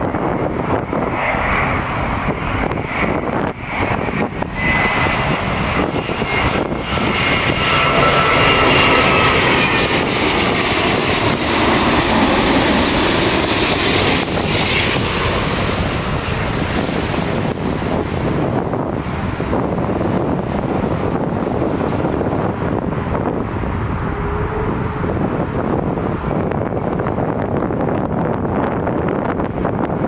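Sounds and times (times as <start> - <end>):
jet airliner rumble: 0.0 - 30.0.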